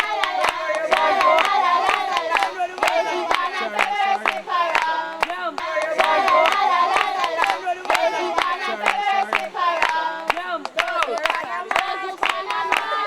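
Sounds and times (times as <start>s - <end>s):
rhythmic hand-clapping: 0.0s - 13.0s
young voices singing and chanting: 0.0s - 13.0s.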